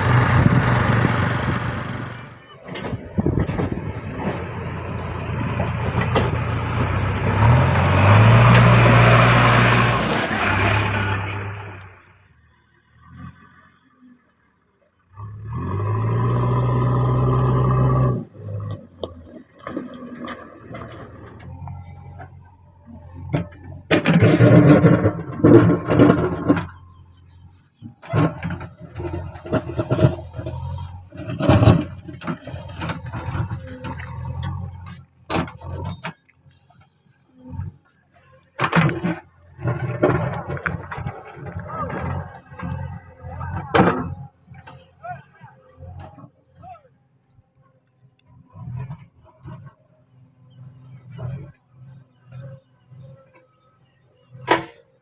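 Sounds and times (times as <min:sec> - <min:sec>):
diesel engine revving under load: 0:00.0 - 0:55.0.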